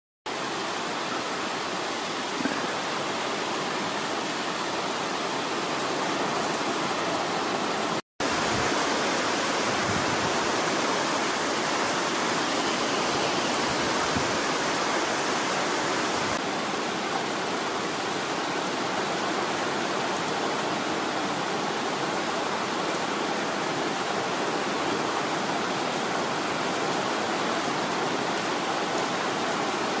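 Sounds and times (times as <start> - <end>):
rain falling: 0.3 - 30.0.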